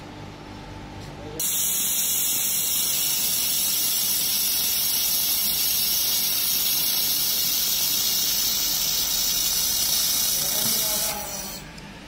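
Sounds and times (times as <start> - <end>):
laser welder high-pitched hiss: 1.4 - 11.8.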